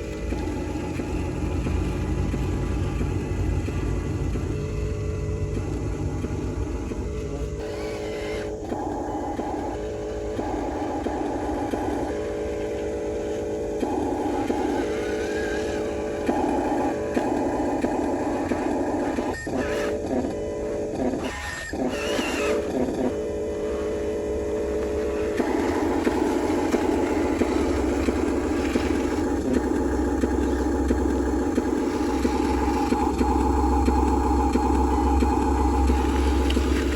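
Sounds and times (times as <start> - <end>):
small electric motors whining: 0.0 - 36.9.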